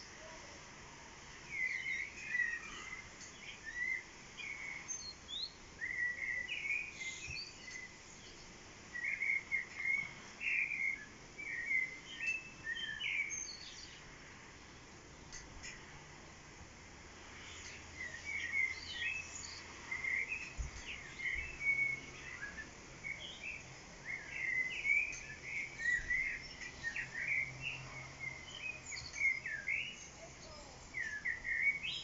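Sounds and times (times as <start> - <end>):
songbird chirping and warbling: 0.0 - 16.5, 17.1 - 32.0
faint background hiss: 0.0 - 32.0.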